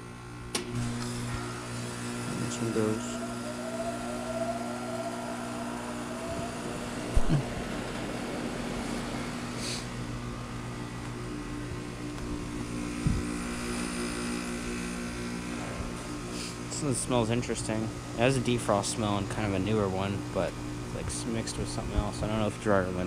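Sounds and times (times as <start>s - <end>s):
heat pump compressor humming: 0.0s - 23.0s.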